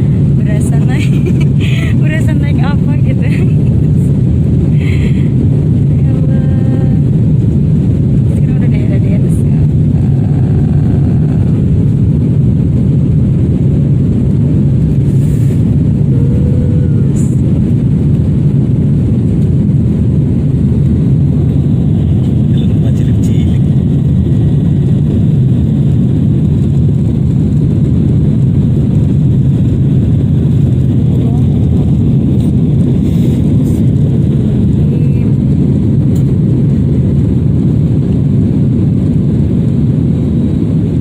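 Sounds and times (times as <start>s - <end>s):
rush of air: 0.0s - 2.4s, 3.2s - 8.3s, 9.3s - 41.0s
airliner engines droning: 0.0s - 41.0s.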